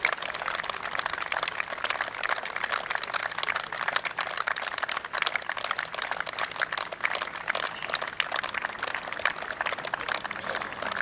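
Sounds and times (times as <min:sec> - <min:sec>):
people clapping: 0:00.0 - 0:11.0.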